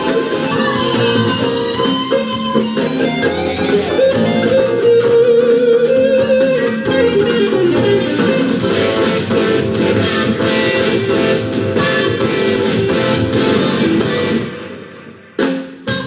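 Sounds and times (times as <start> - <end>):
electric guitar: 0.0 - 16.0
funk rock band playing: 0.0 - 16.0.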